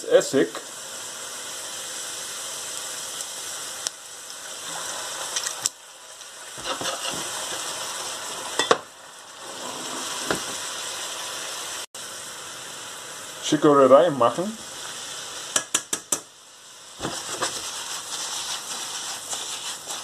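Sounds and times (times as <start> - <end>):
onions sizzling in a frying pan: 0.0 - 20.0.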